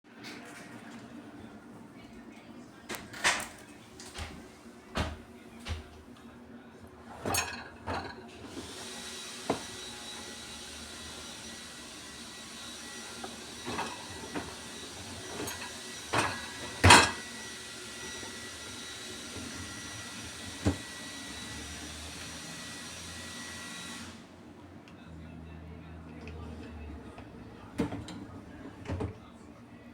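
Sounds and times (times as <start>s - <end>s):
dishwasher running: 0.1s - 24.2s, 25.9s - 29.9s.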